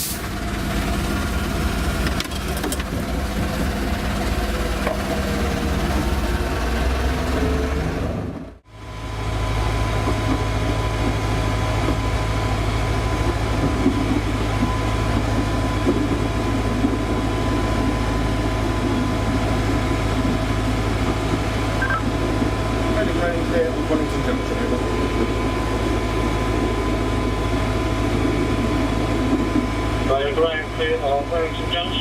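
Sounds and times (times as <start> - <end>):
train engine hum: 0.0 - 32.0
train rolling noise: 0.0 - 32.0.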